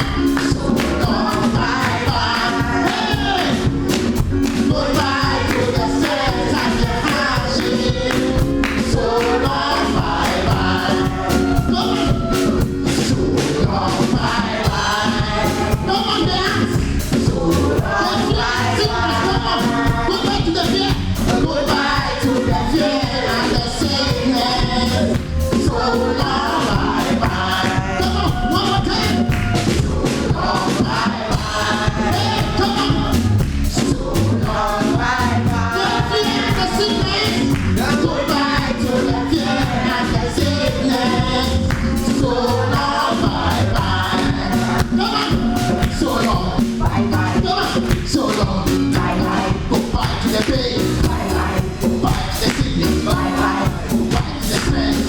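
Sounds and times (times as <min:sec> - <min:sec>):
band accompaniment: 0:00.0 - 0:55.0
gospel choir singing: 0:00.0 - 0:55.0
steady drum beat: 0:00.0 - 0:55.0.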